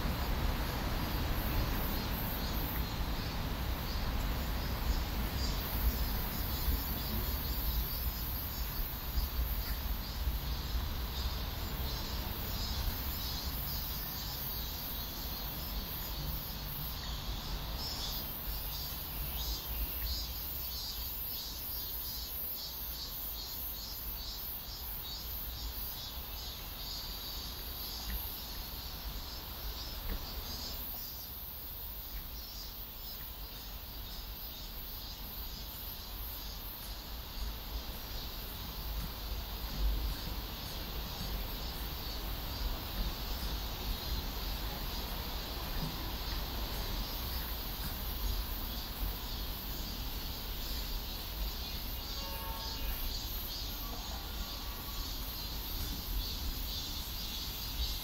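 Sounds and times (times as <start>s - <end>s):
fast pulsed insect call: 0.0s - 58.0s
insects calling: 0.0s - 58.0s.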